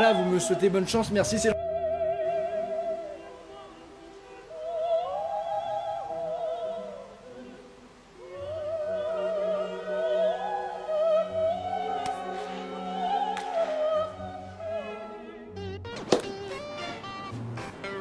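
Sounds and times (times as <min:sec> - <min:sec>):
operatic singing: 0:00.0 - 0:15.8.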